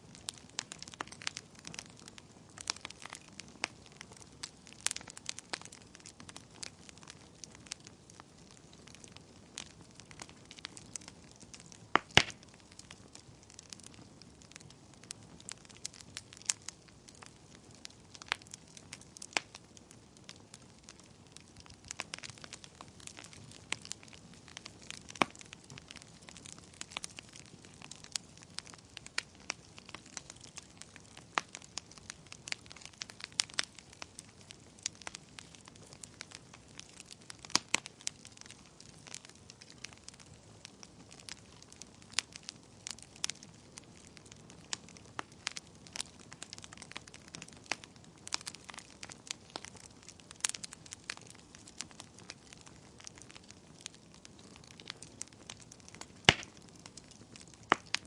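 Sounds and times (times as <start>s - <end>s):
fire faint hiss: 0.0s - 58.0s
wood fire crackling and popping: 0.0s - 58.0s.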